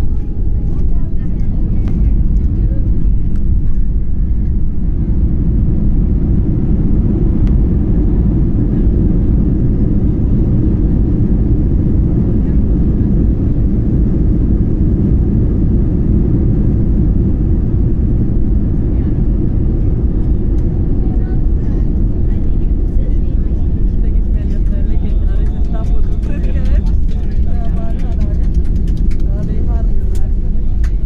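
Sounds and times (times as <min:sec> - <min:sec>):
aircraft engines rumbling in cabin: 0:00.0 - 0:31.0.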